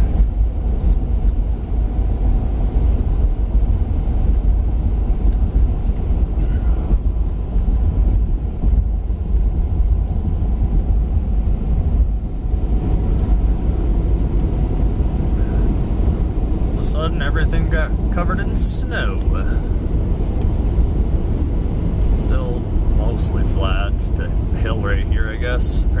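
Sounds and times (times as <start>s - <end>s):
road and engine rumble in cab: 0.0s - 26.0s.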